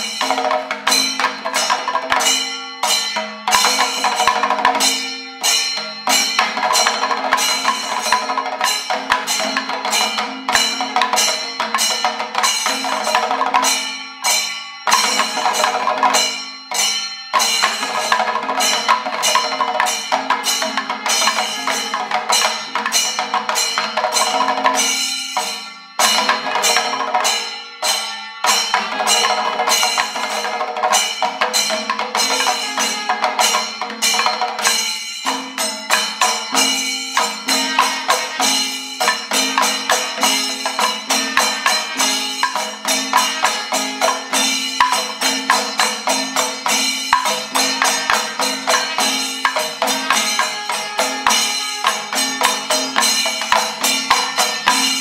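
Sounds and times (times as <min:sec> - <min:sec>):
barrel drum: 0:00.0 - 0:55.0
hand cymbals: 0:00.0 - 0:55.0
hourglass drums: 0:00.0 - 0:55.0.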